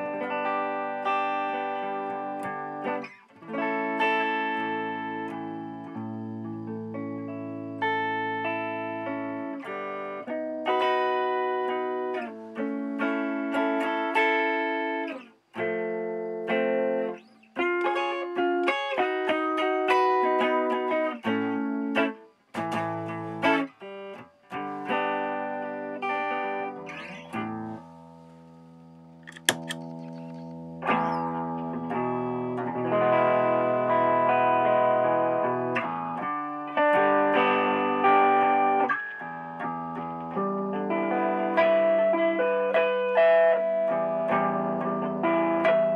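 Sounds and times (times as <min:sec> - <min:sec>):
electric guitar notes and chords: 0:00.0 - 0:45.9.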